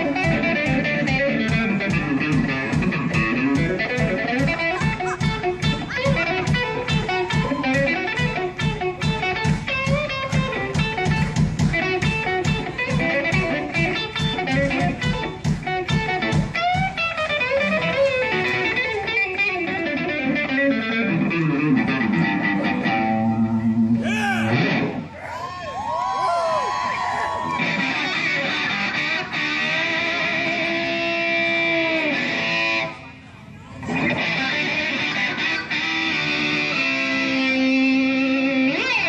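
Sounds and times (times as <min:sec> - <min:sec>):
electric lead guitar: 0:00.0 - 0:25.2, 0:27.4 - 0:39.0.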